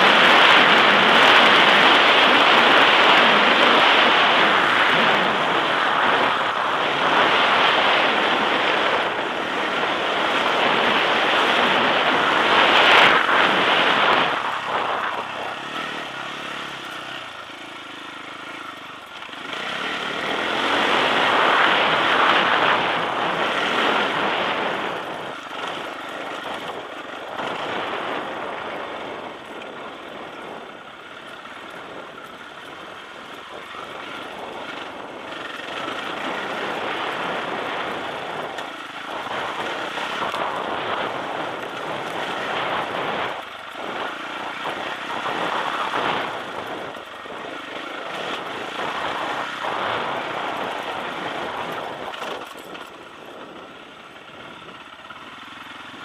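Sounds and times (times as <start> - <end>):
wind on microphone: 0.0 - 17.6, 18.6 - 55.2
motorcycle engine revving: 0.0 - 56.0.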